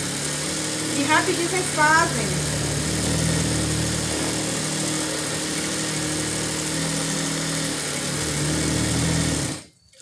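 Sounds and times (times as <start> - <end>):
sewing machine motor hum: 0.0 - 9.7.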